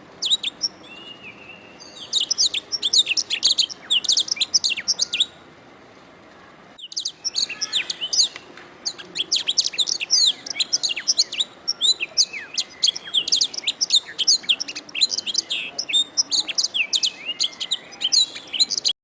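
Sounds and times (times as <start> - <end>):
canary singing: 0.2 - 5.5, 6.8 - 19.0.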